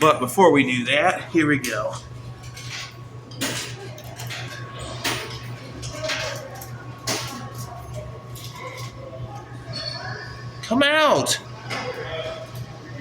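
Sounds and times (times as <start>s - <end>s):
vending machine low hum: 0.0s - 13.0s.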